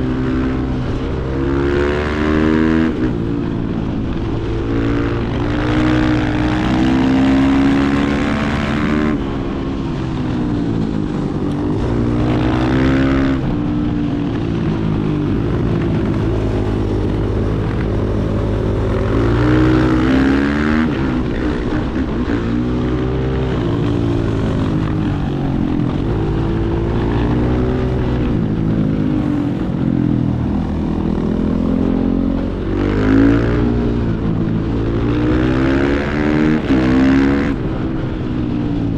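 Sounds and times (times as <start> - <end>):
motorcycle engine revving: 0.0 - 38.9
wind and road noise: 0.0 - 38.9.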